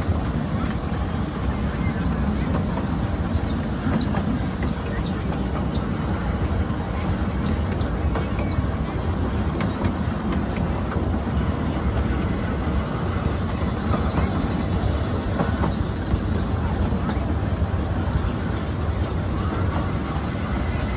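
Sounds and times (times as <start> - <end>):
train wheels rumbling: 0.0 - 20.9
wheel clicks on rail joints: 0.2 - 18.3.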